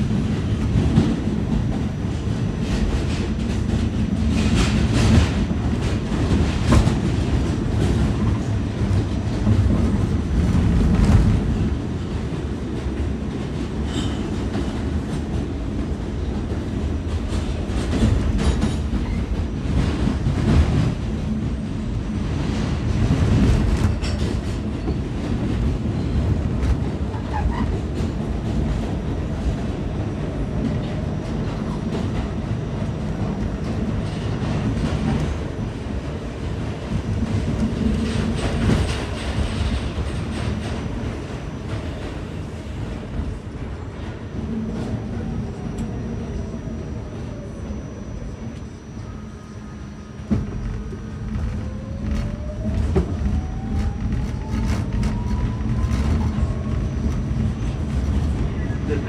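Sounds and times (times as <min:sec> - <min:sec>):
subway train rumble: 0:00.0 - 0:59.0.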